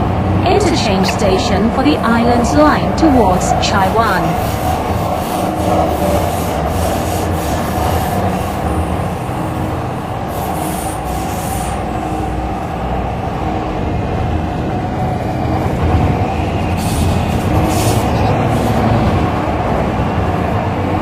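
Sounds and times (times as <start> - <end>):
metro train wheels rumbling: 0.0 - 21.0.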